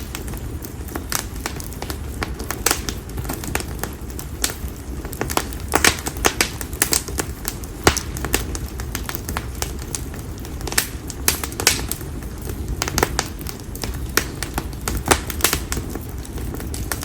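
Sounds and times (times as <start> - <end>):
campfire popping and crackling: 0.0 - 17.0.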